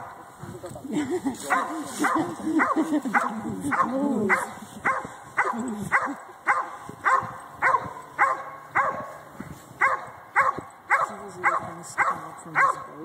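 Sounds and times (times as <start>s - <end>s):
dog barking: 1.5s - 13.0s.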